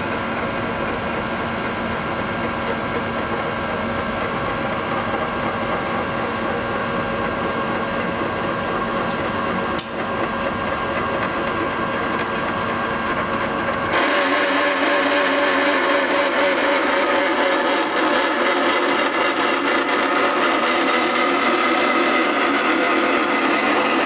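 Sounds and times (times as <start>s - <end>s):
machine running with whining tones: 0.0s - 24.0s.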